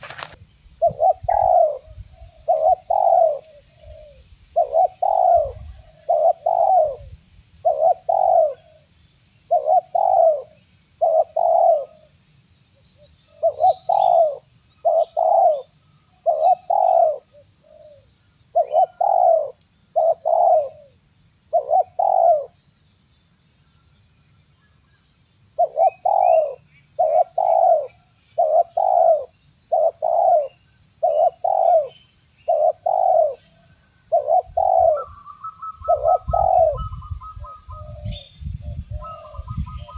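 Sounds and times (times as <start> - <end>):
doves cooing: 0.0 - 8.9, 9.5 - 12.1, 13.3 - 22.6, 25.6 - 39.9.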